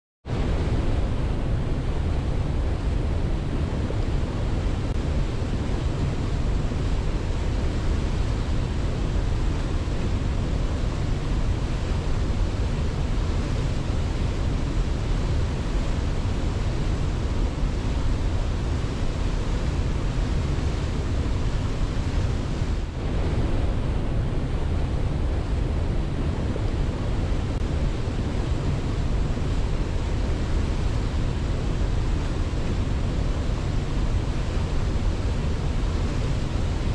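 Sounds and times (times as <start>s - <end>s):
rushing water roar: 0.3s - 36.9s.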